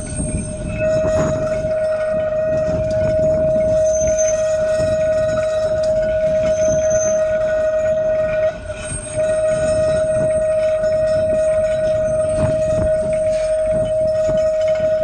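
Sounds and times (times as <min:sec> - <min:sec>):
low rumble from rails: 0:00.0 - 0:15.0
tram wheels squealing: 0:00.0 - 0:15.0.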